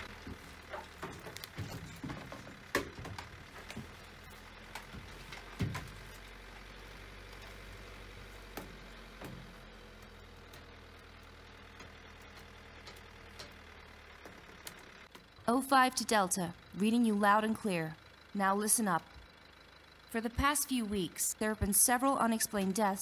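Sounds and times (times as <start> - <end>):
van engine hum: 0.0 - 23.0.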